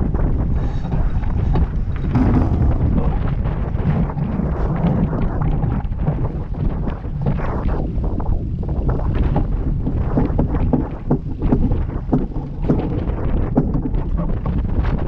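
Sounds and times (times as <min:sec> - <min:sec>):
water splashing along a hull: 0:00.0 - 0:15.0
wind buffeting microphone: 0:00.0 - 0:15.0.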